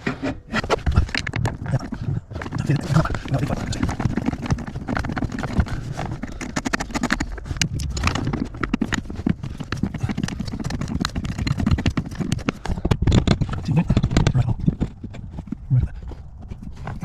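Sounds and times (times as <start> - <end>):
tools clicking and knocking: 0.0 - 15.6.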